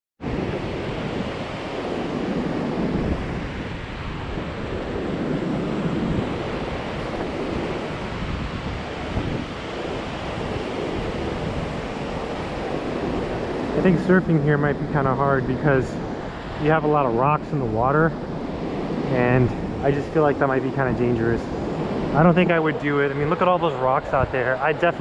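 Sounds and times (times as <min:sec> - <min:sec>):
waves breaking: 0:00.2 - 0:25.0
wind on microphone: 0:00.2 - 0:25.0.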